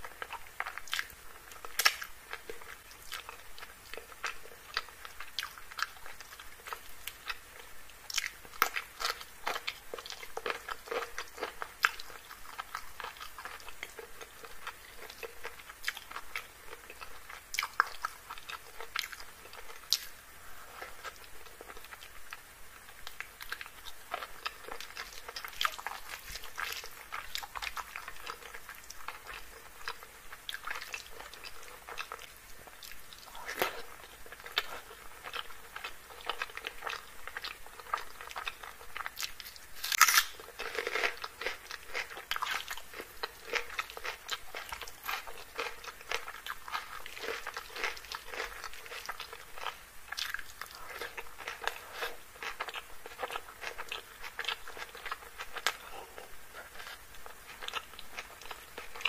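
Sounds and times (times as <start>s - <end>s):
person chewing and crunching: 0.0s - 59.0s.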